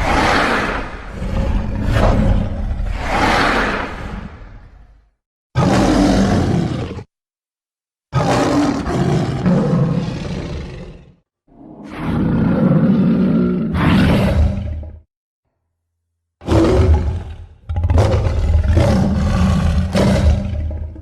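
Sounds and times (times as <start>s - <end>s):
lion-like animal roars: 0.0s - 7.1s, 8.1s - 15.1s, 16.4s - 21.0s.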